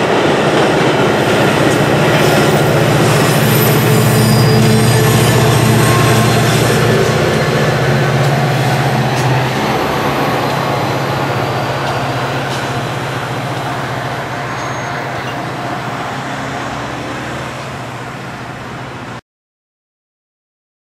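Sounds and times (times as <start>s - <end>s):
locomotive engine drone: 0.0s - 19.2s
rail noise: 0.0s - 19.2s.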